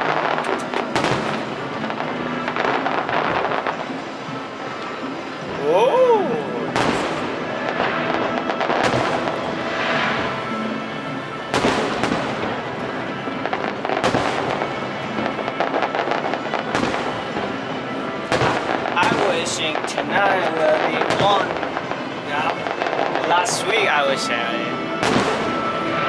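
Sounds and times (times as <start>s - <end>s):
fireworks booming: 0.0s - 5.6s, 6.3s - 26.0s
fireworks crackling: 0.0s - 26.0s
music playing: 0.0s - 26.0s.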